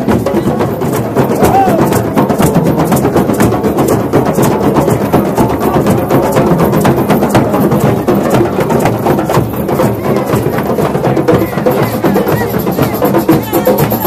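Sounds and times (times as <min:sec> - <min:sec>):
hand drums playing rhythm: 0:00.0 - 0:14.0.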